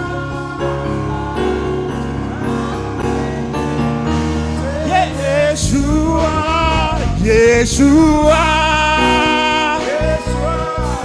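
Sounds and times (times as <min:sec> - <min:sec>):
instrumental chords: 0:00.0 - 0:11.0
person singing: 0:00.0 - 0:11.0.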